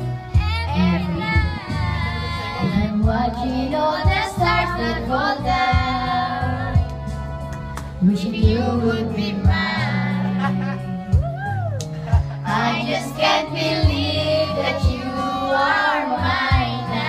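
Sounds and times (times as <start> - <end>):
backing track with bass and beat: 0.0 - 15.6
girl singing into microphone: 0.1 - 6.9, 8.0 - 11.4, 12.5 - 17.0.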